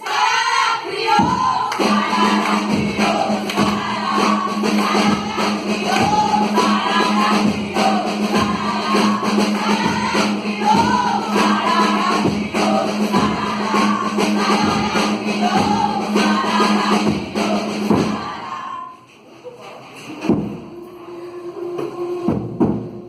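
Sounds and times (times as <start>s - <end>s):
choir singing: 0.0s - 19.0s, 20.6s - 23.0s
musical accompaniment with steady beat: 0.0s - 19.2s.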